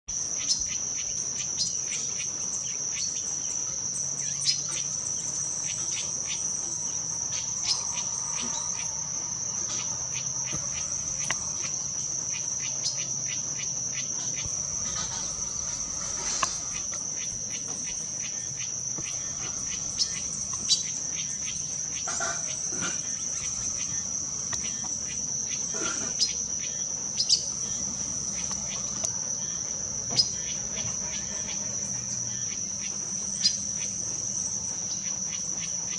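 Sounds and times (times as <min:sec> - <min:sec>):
high-pitched insect drone: 0:00.1 - 0:35.9.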